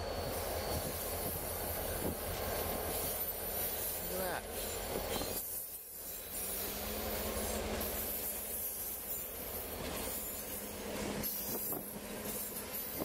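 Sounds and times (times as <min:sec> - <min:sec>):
diesel locomotive hum: 0:00.0 - 0:13.0
train wheels on rails: 0:00.0 - 0:13.0.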